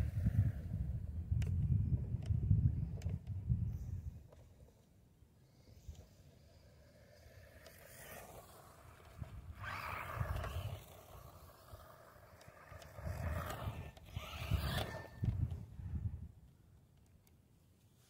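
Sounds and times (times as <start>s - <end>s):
rc truck motor and tyres: 0.0s - 16.4s.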